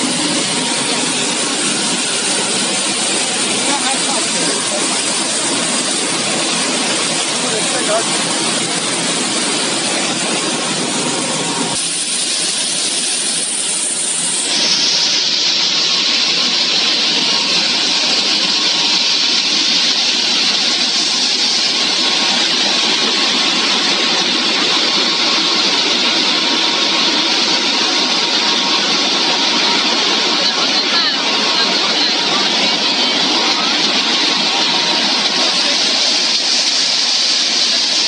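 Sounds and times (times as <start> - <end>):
air-blower fans: 0.0 - 38.0
conveyor machinery rushing noise: 0.0 - 38.0.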